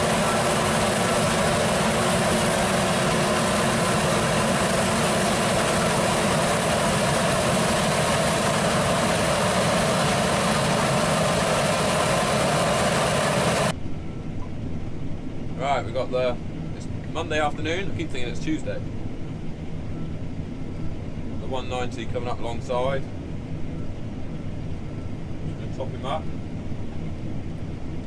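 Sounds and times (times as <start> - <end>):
combine harvester running: 0.0 - 28.0.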